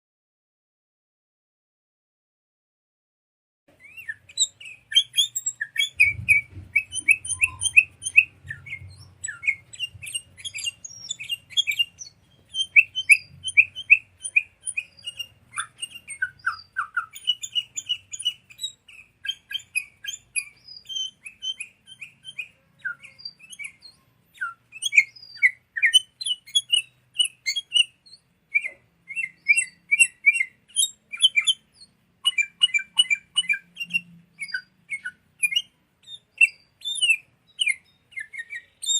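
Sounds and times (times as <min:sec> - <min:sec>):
bird chirping: 0:03.7 - 0:38.9.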